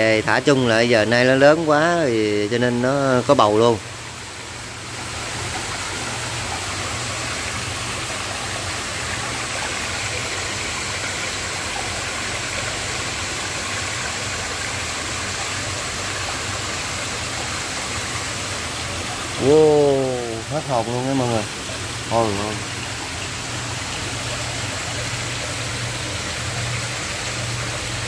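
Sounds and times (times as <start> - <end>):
water splashing into a tank: 2.5 - 28.0.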